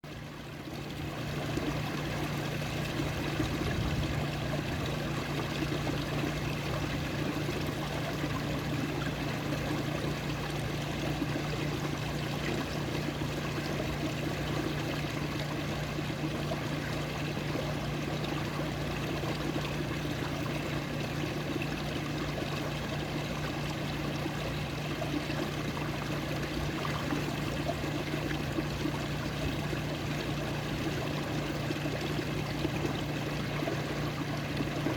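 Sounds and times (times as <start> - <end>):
steady low hum: 0.0 - 34.9
water flowing and trickling: 0.0 - 34.9.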